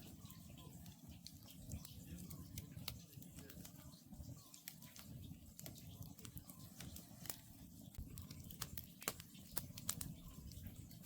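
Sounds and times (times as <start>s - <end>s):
campfire crackling: 0.0s - 11.0s
low rumble of flames: 0.0s - 11.0s.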